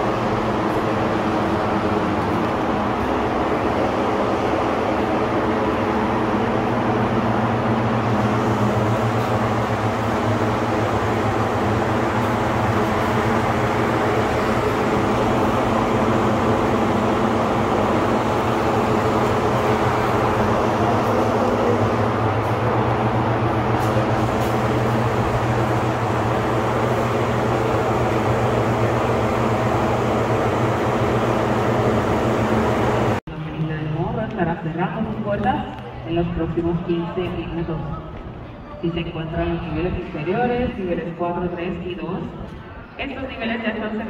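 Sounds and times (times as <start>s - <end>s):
machine hum: 0.0s - 43.0s.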